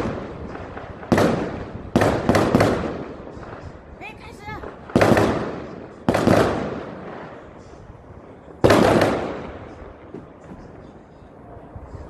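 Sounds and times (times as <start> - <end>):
distant fireworks booming: 0.0 - 12.0.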